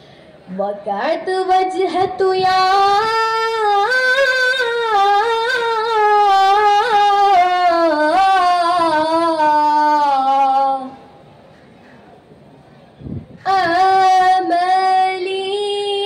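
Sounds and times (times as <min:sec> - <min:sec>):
boy singing unaccompanied: 0:00.5 - 0:11.0, 0:13.4 - 0:16.0.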